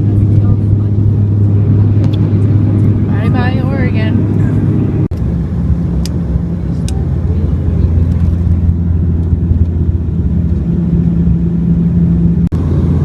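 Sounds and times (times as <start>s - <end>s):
vehicle rumble inside: 0.0s - 13.0s.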